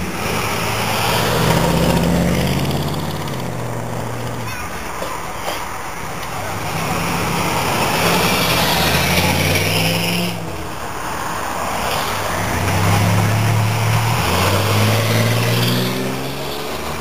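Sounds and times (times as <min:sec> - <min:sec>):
car engine revving through exhaust: 0:00.0 - 0:04.5, 0:06.4 - 0:10.6, 0:11.8 - 0:17.0.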